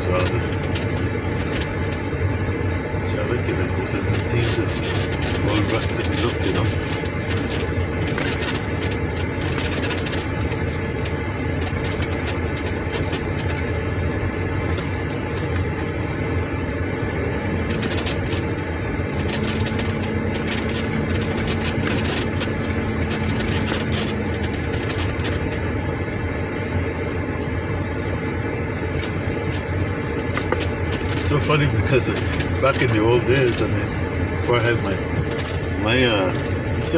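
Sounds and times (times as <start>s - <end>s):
car engine and tyre rumble: 0.0s - 36.9s.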